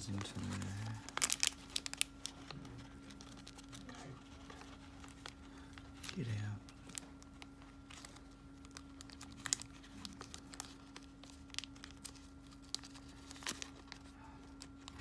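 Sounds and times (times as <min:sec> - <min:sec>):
plastic packet crinkling: 0:00.0 - 0:15.0
steady low hum: 0:00.0 - 0:15.0.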